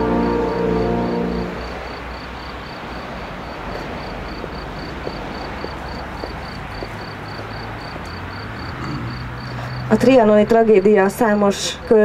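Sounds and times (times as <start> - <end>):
cricket chirping: 0.0 - 12.0
outdoor background noise: 0.0 - 12.0.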